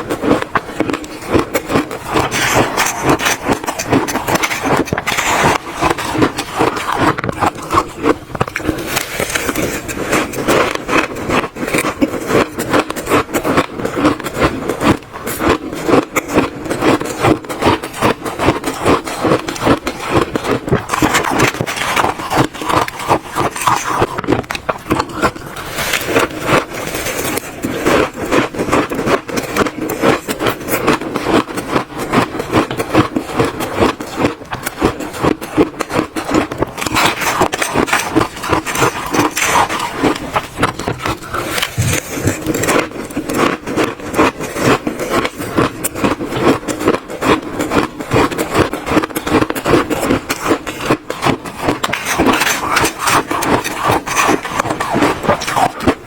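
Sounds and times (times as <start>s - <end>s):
chewing crunchy shaved ice: 0.0s - 56.0s.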